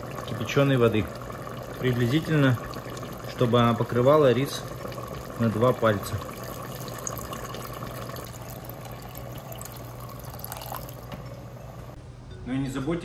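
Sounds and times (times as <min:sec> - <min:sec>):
water pouring into a bowl: 0:00.0 - 0:11.9.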